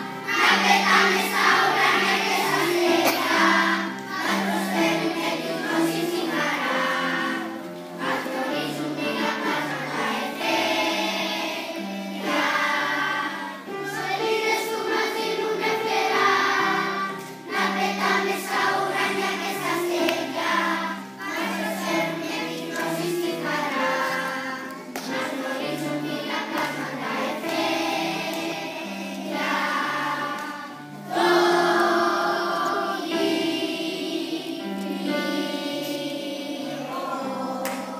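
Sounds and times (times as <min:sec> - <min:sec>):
children's choir singing: 0:00.0 - 0:37.9
piano accompaniment: 0:00.0 - 0:37.9.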